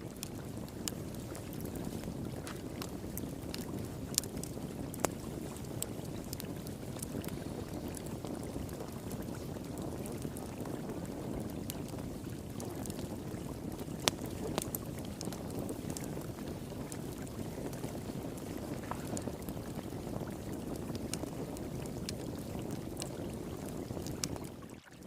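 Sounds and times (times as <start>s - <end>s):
wood fire crackling: 0.0s - 24.7s
flowing water: 0.0s - 25.0s.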